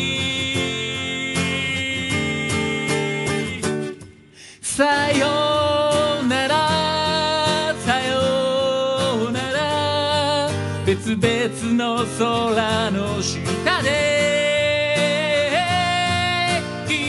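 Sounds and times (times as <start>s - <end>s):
acoustic guitar strumming: 0.0s - 17.0s
man singing: 0.0s - 17.0s.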